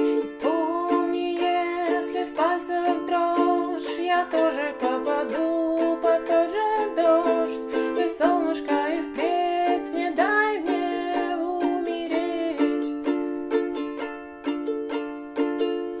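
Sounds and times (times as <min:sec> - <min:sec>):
person singing or humming: 0:00.0 - 0:12.9
ukulele strumming: 0:00.0 - 0:16.0.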